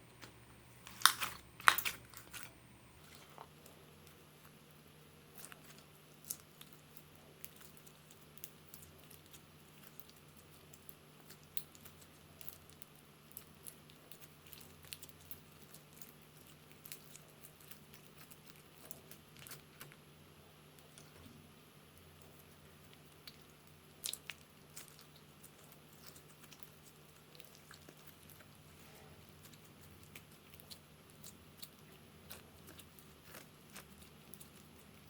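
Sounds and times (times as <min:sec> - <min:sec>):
slime squishing: 0:00.0 - 0:35.0.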